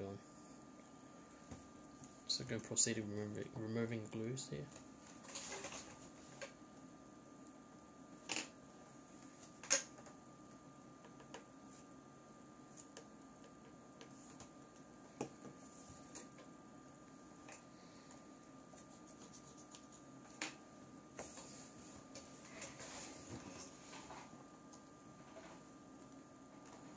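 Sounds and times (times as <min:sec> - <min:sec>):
faint steady whine: 0:00.0 - 0:26.9.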